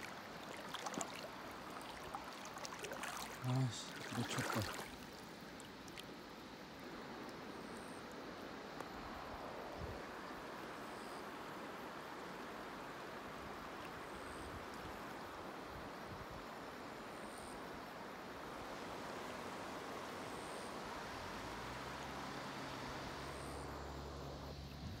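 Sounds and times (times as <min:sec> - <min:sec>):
river flowing over stones: 0:00.0 - 0:07.6, 0:08.2 - 0:24.6.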